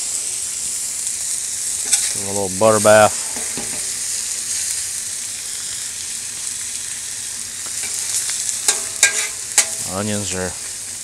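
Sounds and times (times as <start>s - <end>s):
steaks sizzling on griddle: 0.0s - 11.0s.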